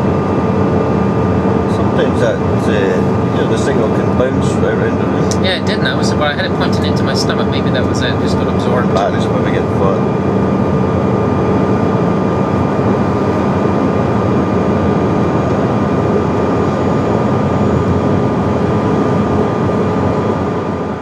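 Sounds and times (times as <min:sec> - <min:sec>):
constant high whine: 0:00.0 - 0:21.0
jet cabin airflow and engine: 0:00.0 - 0:21.0.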